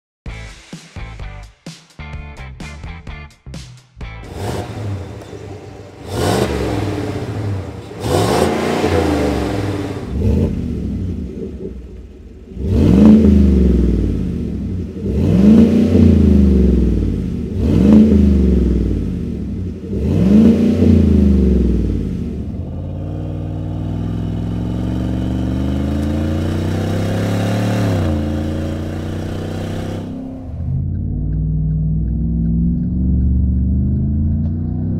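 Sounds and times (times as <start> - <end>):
car engine revving: 4.2 - 34.9.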